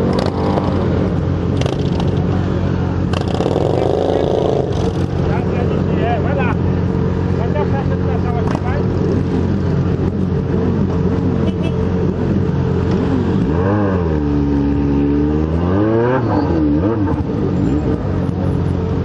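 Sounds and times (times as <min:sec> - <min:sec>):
motorcycle engine revving: 0:00.0 - 0:19.0
motorcycle engines running: 0:00.0 - 0:19.0.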